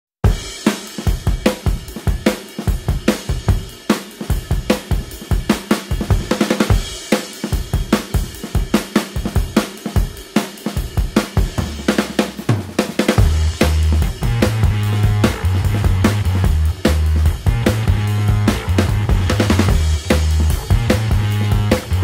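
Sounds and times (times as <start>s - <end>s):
music with drum-kit beat: 0.2s - 22.0s.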